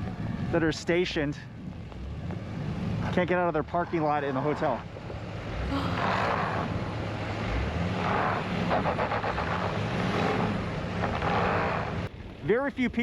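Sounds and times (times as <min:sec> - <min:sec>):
truck engines running: 0:00.0 - 0:13.0.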